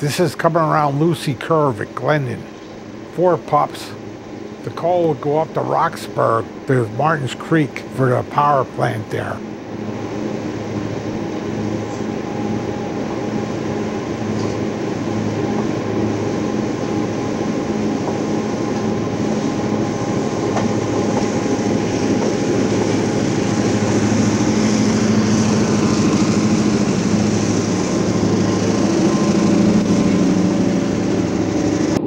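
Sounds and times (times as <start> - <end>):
diesel locomotive engines running: 0.0 - 32.0
wheels hissing on rail: 0.0 - 32.0.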